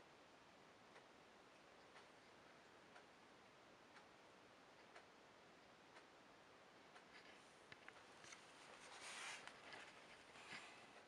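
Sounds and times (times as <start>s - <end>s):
faint clock ticking: 0.0s - 11.0s.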